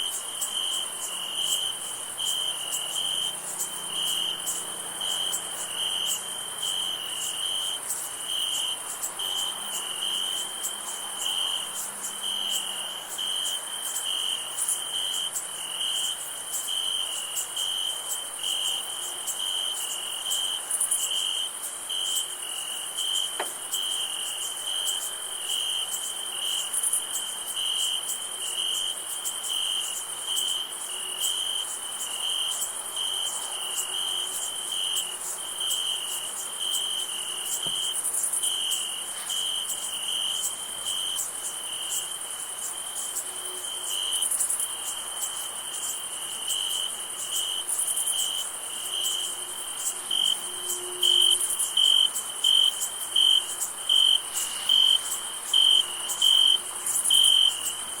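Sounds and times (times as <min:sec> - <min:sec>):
crickets chirping: 0:00.0 - 0:58.0
high-pitched insect trill: 0:00.0 - 0:58.0.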